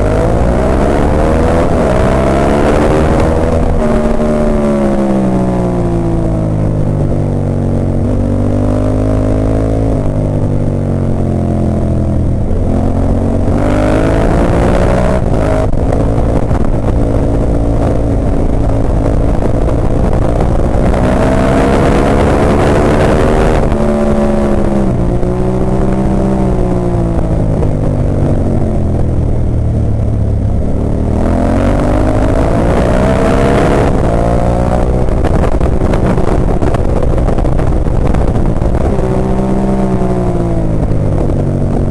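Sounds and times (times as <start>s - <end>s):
motorcycle engine accelerating: 0.0s - 41.9s
wind rushing over microphone: 0.0s - 41.9s.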